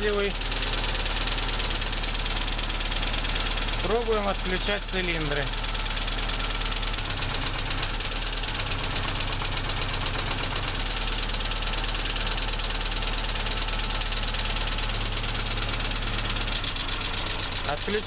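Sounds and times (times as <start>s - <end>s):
car engine idling with knock: 0.0s - 18.0s.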